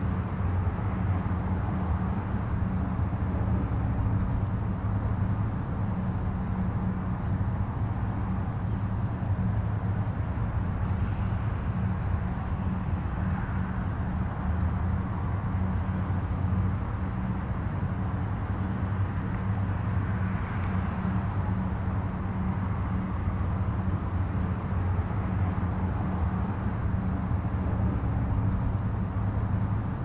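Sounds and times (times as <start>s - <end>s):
distant highway traffic rumble: 0.0s - 30.0s.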